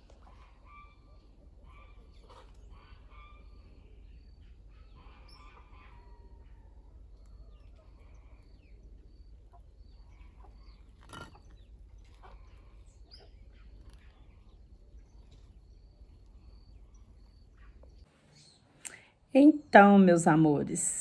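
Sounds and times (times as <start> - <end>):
birds chirping: 0.1 - 21.0.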